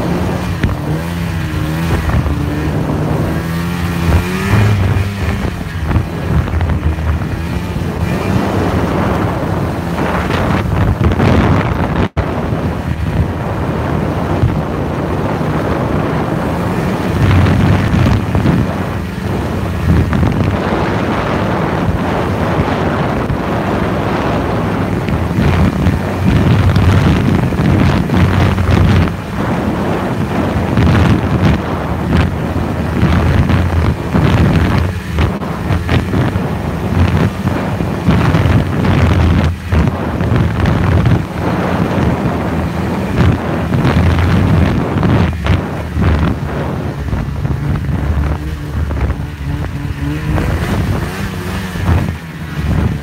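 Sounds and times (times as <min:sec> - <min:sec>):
snowmobile engine running: 0:00.0 - 0:53.0
wind noise on microphone: 0:00.0 - 0:53.0.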